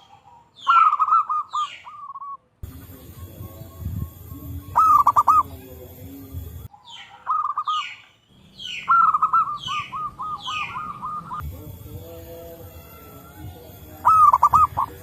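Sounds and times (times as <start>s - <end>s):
doves cooing: 0.0s - 3.1s, 3.7s - 8.0s, 8.6s - 11.5s, 12.7s - 15.0s
high falling bird chirps: 0.0s - 15.0s.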